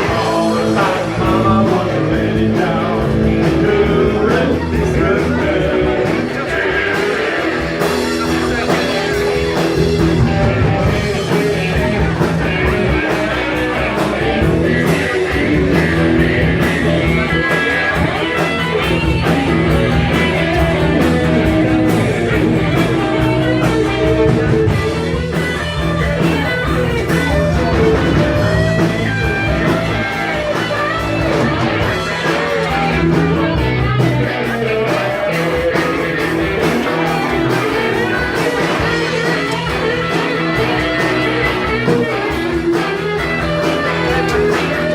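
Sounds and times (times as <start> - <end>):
blues-rock band playing: 0.0 - 44.9
electric guitar: 0.0 - 44.9.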